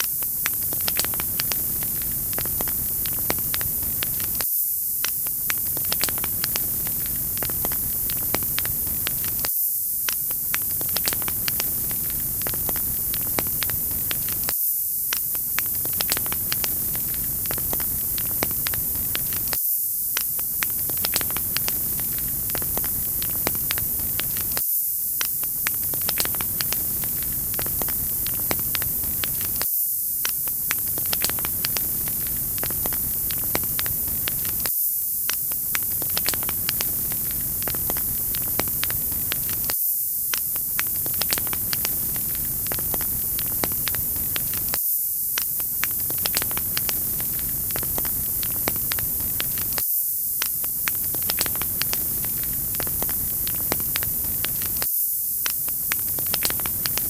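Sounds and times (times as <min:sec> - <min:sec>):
wood fire crackling: 0:00.1 - 0:04.4, 0:05.0 - 0:14.5, 0:15.1 - 0:24.6, 0:25.2 - 0:29.6, 0:30.3 - 0:44.8, 0:45.4 - 0:49.8, 0:50.4 - 0:57.0.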